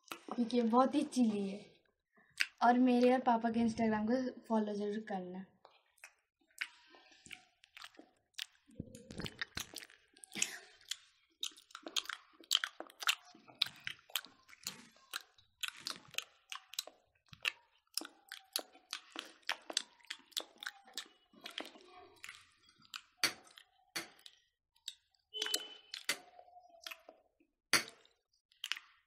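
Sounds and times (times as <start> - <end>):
people chewing with mouth clicks: 0.0 - 3.2, 5.6 - 29.0.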